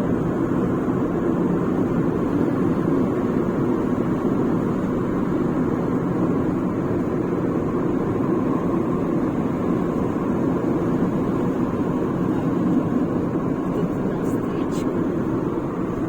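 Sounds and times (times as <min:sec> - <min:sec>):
car engine low hum: 0:00.0 - 0:16.0
tyres on highway: 0:00.0 - 0:16.0.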